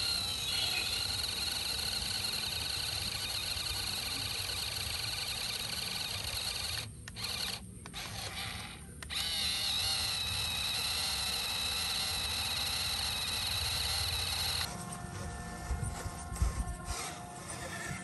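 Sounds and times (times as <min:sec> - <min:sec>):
toy electric motor whining: 0:00.0 - 0:18.0.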